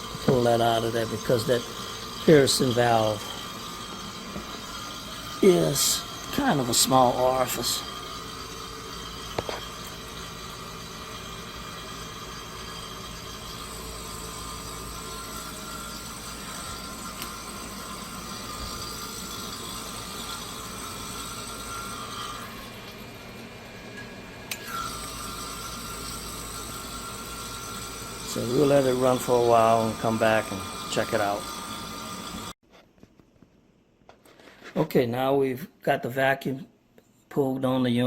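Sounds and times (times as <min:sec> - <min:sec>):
kitchen vent fan: 0:00.0 - 0:32.6
vacuum pump running: 0:00.0 - 0:32.6.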